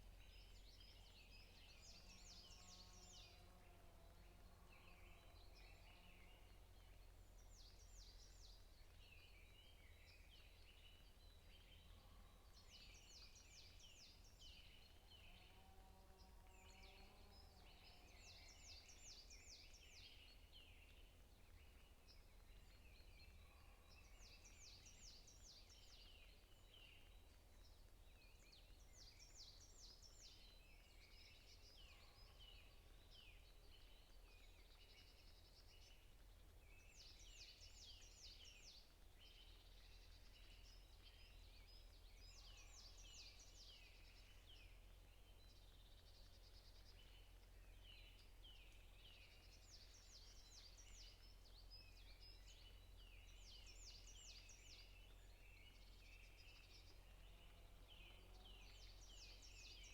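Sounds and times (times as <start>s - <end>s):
birds singing: 0.1s - 59.9s.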